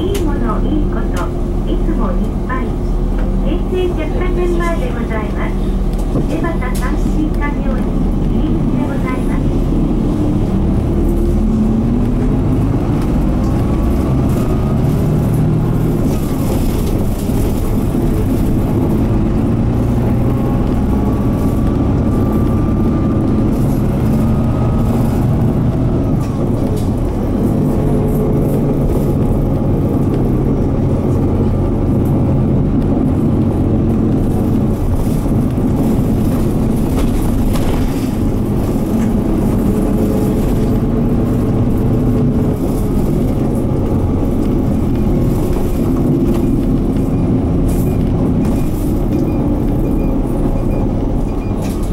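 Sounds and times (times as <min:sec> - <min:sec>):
bus diesel engine under load: 0:00.0 - 0:51.9
road and tyre noise: 0:00.0 - 0:51.9.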